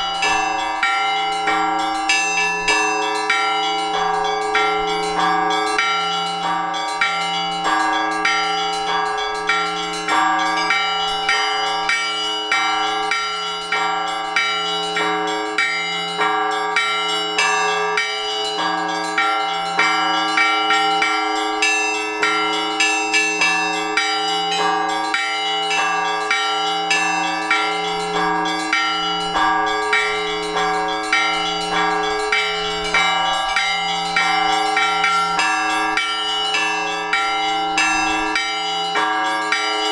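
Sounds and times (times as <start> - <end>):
smaller bells striking quickly: 0.0 - 39.9.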